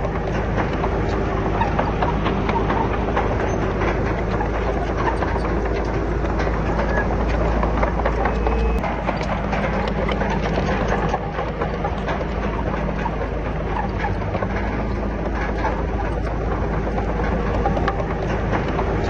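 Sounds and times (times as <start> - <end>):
bulldozer diesel engine rumble: 0.0 - 19.0
metallic clatter of tracks: 0.0 - 19.0.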